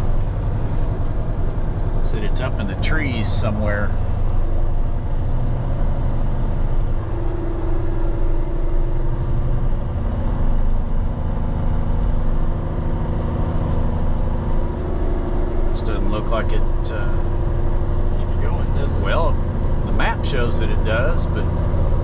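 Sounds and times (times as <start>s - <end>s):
heavy diesel truck engine running: 0.0s - 22.0s.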